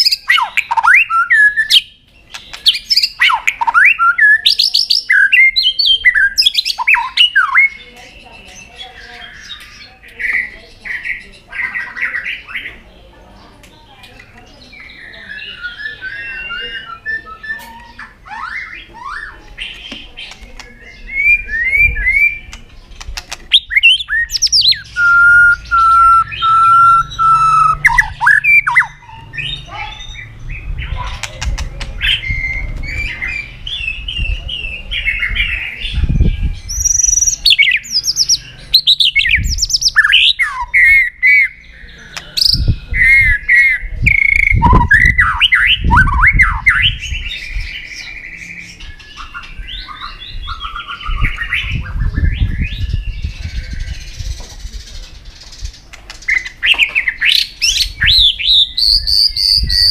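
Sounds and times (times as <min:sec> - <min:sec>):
bird singing: 0:00.0 - 0:59.9.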